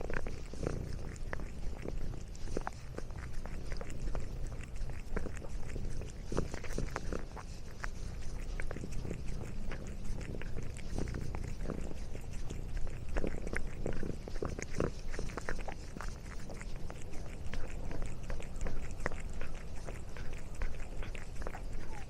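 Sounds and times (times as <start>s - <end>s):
cat crunching food: 0.0s - 22.0s
steady low rumble: 0.0s - 22.0s.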